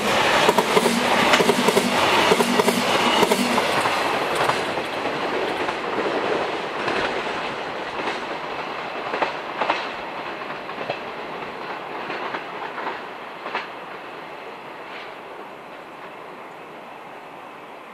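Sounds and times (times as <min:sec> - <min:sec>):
freight train wheels rumbling and clicking: 0:00.0 - 0:16.3.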